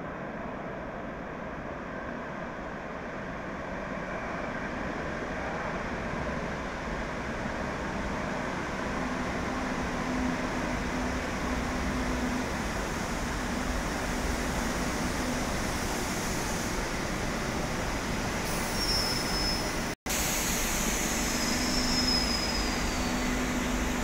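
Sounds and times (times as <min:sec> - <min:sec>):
metro train rumbling: 0:00.0 - 0:24.0.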